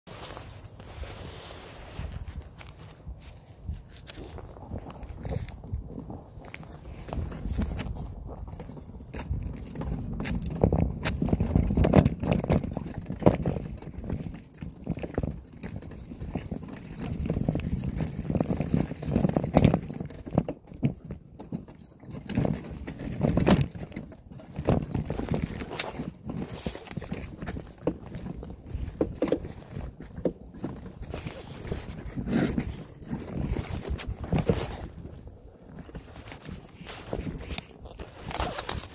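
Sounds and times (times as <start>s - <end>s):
crunching steps on dirt trail: 0.1s - 38.9s.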